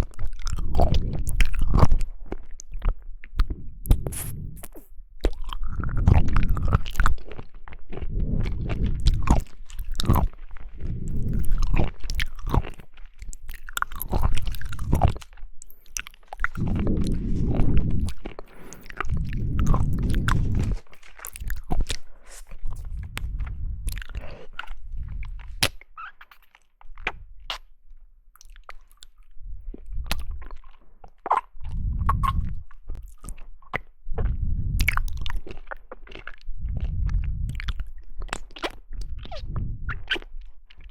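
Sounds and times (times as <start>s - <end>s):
chewing and biting jelly: 0.0s - 40.9s.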